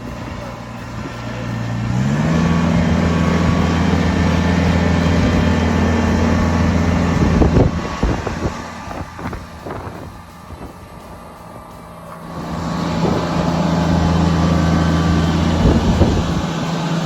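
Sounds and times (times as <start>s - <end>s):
engine knocks: 0.0s - 17.0s
tractor diesel engine revving: 0.0s - 17.0s.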